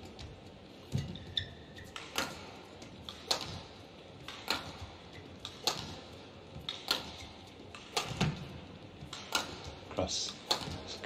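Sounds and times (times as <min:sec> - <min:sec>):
rackets hitting shuttlecock: 0:00.2 - 0:11.0.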